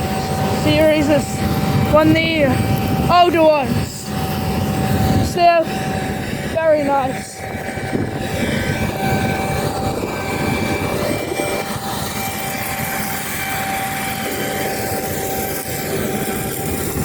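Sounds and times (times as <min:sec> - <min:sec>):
constant high whine: 0:00.0 - 0:17.0
harvester engine drone: 0:00.0 - 0:17.0.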